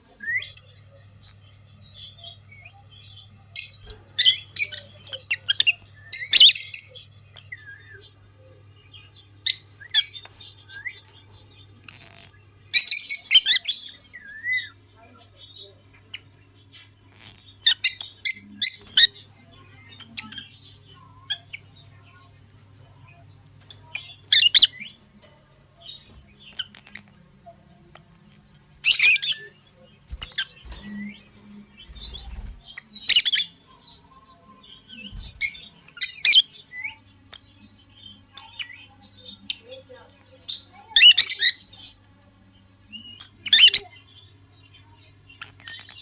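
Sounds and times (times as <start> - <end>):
faint low hum: 0.0 - 46.0
lovebirds chirping: 0.0 - 46.0.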